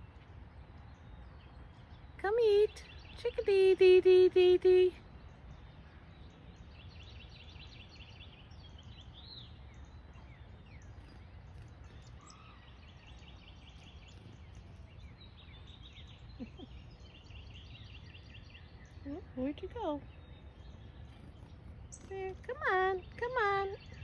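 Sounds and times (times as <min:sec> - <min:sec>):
low outdoor rumble: 0:00.0 - 0:24.0
songbirds trilling: 0:00.0 - 0:24.0.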